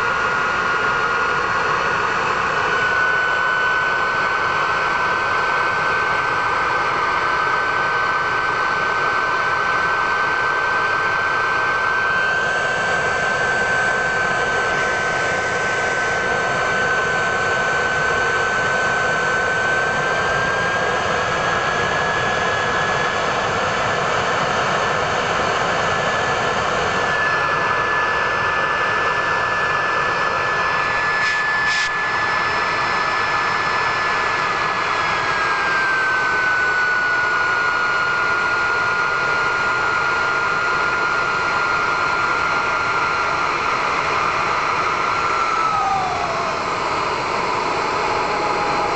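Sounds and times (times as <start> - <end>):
model turbojet engine whine: 0.0 - 48.9.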